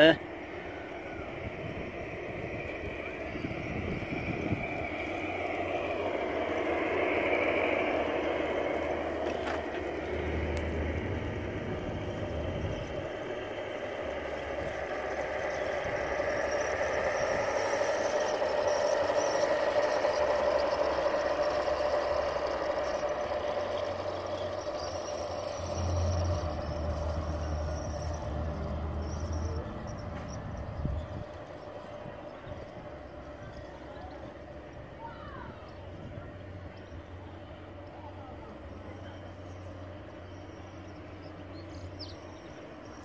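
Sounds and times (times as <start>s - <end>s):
model train wheels rattling and squealing: 0.0s - 43.0s.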